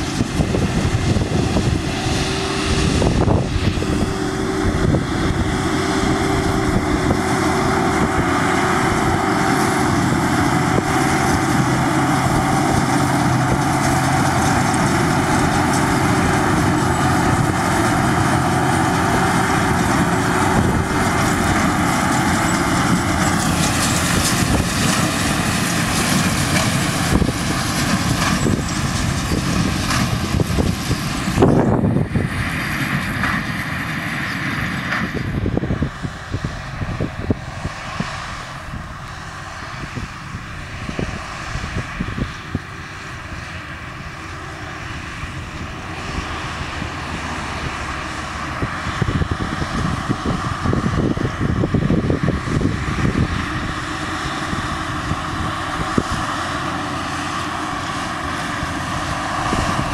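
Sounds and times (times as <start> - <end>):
baler machinery droning: 0.0 - 59.9
constant machine whine: 0.0 - 59.9
tractor diesel engine running: 0.0 - 59.9.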